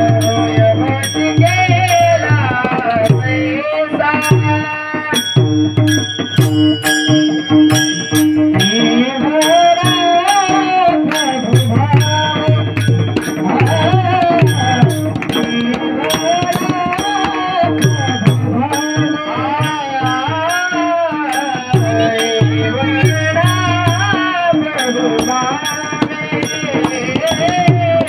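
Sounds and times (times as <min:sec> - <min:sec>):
drum beat: 0:00.0 - 0:28.0
man singing devotional melody: 0:00.0 - 0:28.0
small hand cymbals: 0:05.1 - 0:28.0.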